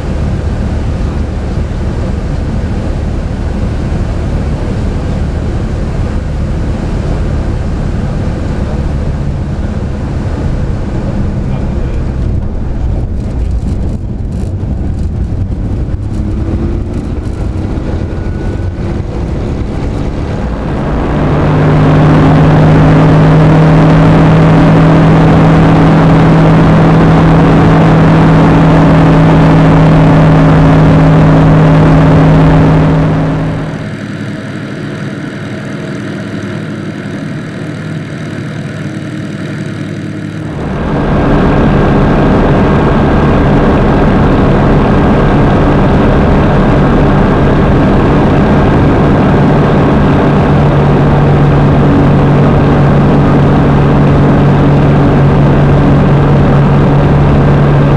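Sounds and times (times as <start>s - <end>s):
propeller aircraft engine drone: 0.0s - 57.9s.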